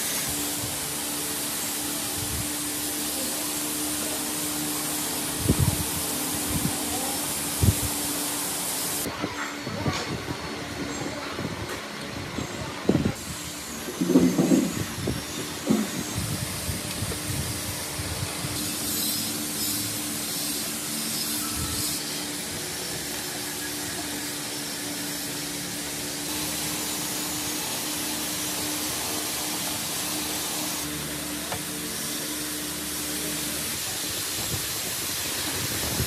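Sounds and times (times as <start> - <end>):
fan air hiss: 0.0 - 36.0
fan motor hum: 0.0 - 36.0.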